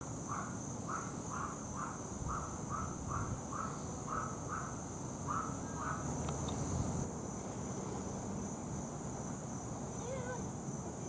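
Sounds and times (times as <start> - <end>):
insects droning: 0.0 - 11.0
low rumble of distant traffic: 0.0 - 11.0.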